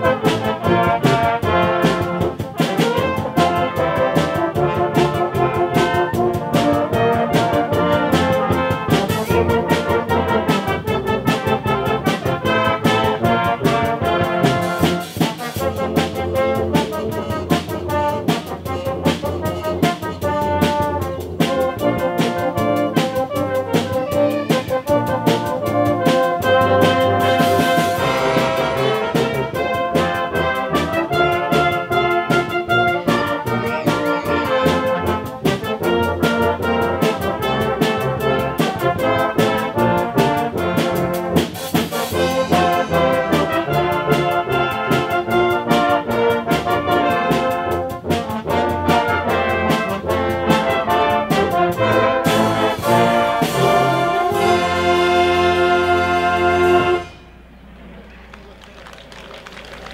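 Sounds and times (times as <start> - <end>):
percussion beat: 0.0 - 55.2
brass band playing: 0.0 - 58.1.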